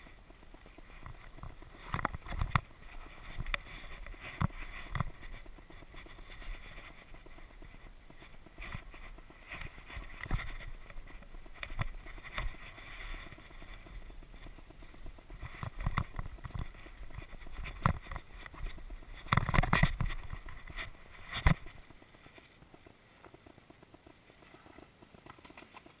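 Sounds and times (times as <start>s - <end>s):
bike knocks and rattles: 0.0s - 24.0s
bike tyres crunching on dirt: 0.0s - 26.0s.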